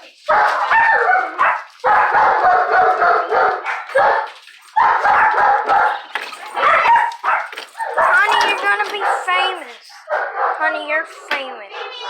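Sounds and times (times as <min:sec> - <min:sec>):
dog barking and whining: 0:00.2 - 0:10.7, 0:11.7 - 0:12.0.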